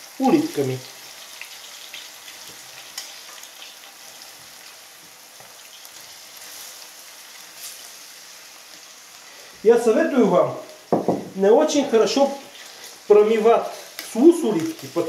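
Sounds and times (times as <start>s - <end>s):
food sizzling in oil in a frying pan: 0.0s - 15.0s.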